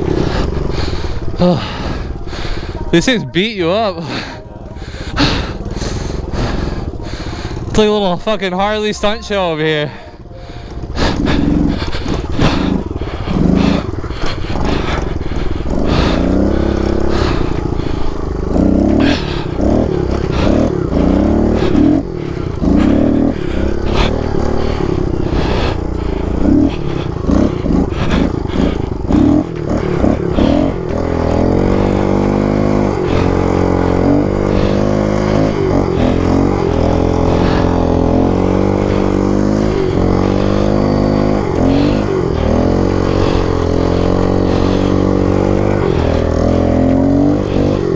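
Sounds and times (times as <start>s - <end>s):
motorbike engine revving: 0.0s - 47.9s.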